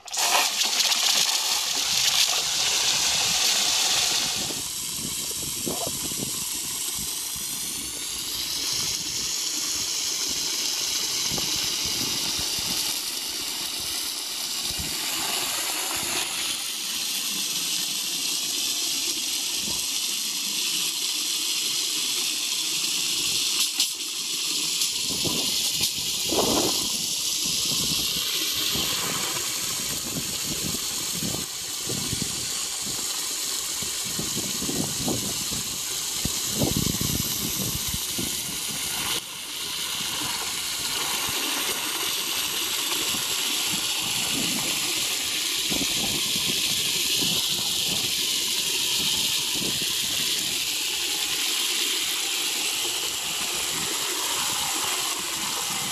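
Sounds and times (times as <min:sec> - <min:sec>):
water spraying from hose into tub: 0:00.0 - 0:55.9.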